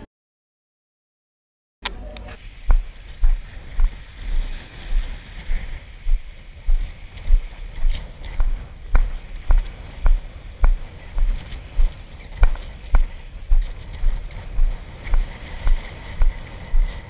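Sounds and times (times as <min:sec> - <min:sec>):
wind on microphone: 0:01.9 - 0:17.0
footsteps on sand: 0:02.6 - 0:17.0.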